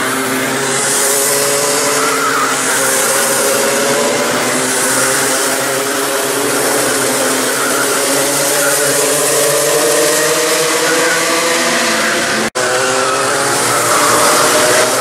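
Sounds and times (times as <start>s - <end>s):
racing kart engines: 0.0s - 15.0s.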